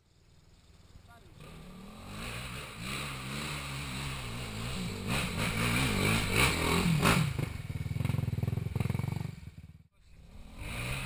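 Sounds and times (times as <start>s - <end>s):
motorcycle engine revving: 0.8s - 11.0s.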